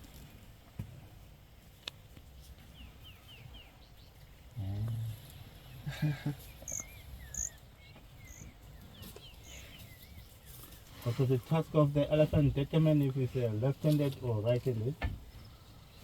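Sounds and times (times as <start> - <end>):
small birds chirping: 1.9 - 16.0.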